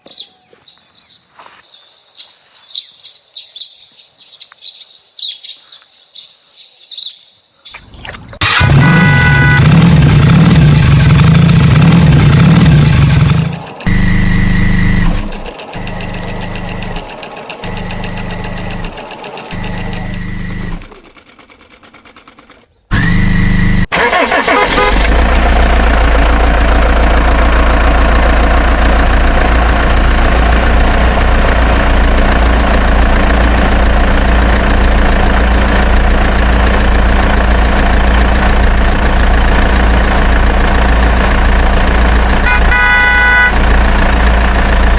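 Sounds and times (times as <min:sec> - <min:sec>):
tractor engine cranking: 0:08.4 - 0:44.9
tractor engine idling: 0:08.4 - 0:44.9
tractor engine running: 0:08.4 - 0:44.9.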